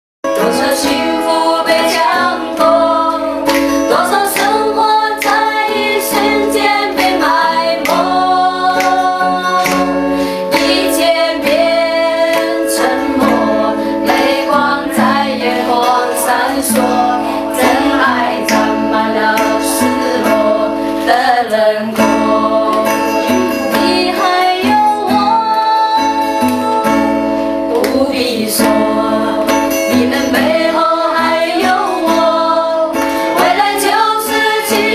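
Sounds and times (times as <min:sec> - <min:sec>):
acoustic guitar: 0:00.2 - 0:34.9
women singing: 0:00.3 - 0:34.9.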